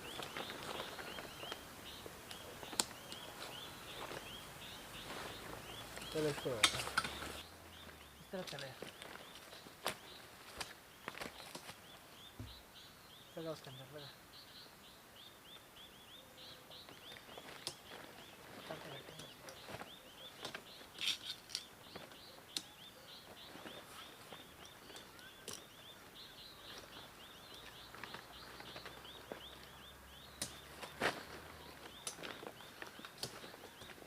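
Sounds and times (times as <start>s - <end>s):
small bird chirping: 0.0s - 34.0s.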